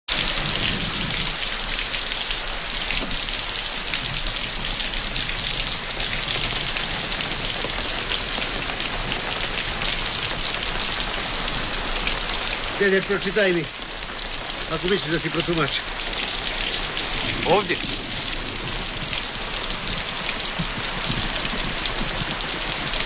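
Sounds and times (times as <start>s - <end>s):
heavy rain falling: 0.1s - 23.0s.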